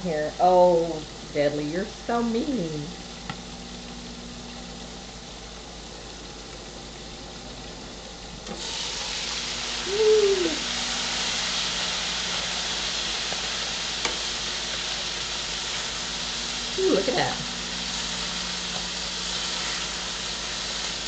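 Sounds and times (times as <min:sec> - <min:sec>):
chicken sizzling in a skillet: 0:00.0 - 0:21.0
steady low hum: 0:00.0 - 0:21.0.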